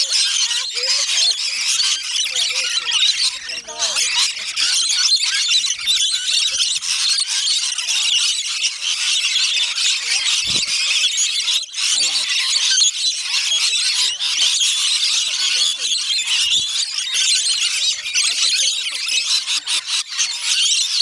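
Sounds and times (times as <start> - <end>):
lorikeets screeching and chattering: 0.0 - 21.0.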